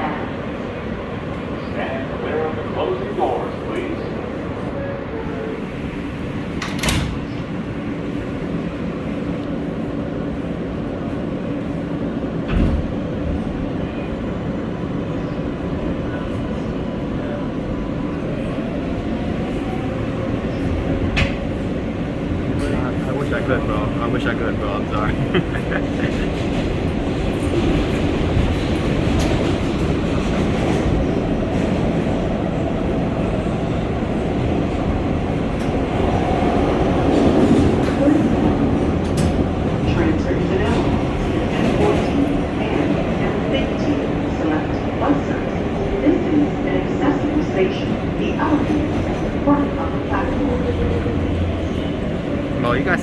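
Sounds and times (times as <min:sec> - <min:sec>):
subway train rumbling in tunnel: 0:00.0 - 0:53.0.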